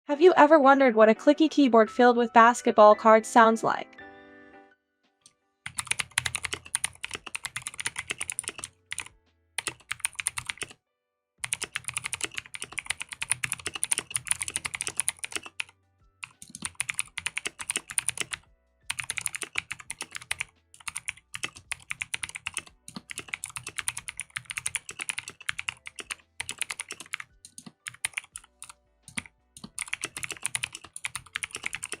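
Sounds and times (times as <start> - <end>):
mechanical keyboard typing: 5.7 - 10.8, 11.4 - 32.0.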